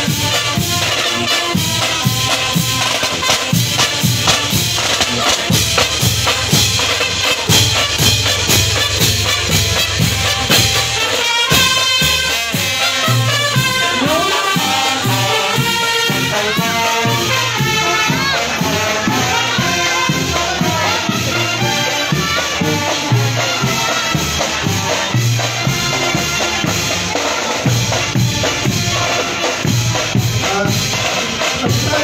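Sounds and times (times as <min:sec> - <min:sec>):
horns melody: 0:00.0 - 0:32.0
marching band playing a march: 0:00.0 - 0:32.0
steady drumbeat: 0:00.0 - 0:32.0.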